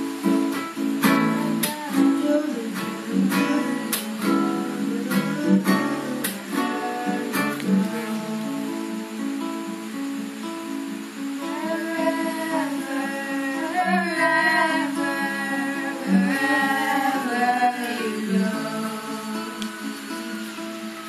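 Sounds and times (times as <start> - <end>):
acoustic guitar strumming: 0.0 - 21.0
voices singing: 0.9 - 9.5, 11.4 - 21.0.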